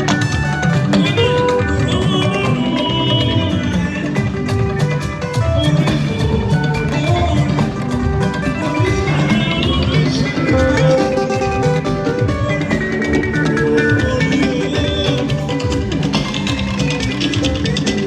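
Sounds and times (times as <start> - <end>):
music with guitar and drums: 0.0 - 18.0.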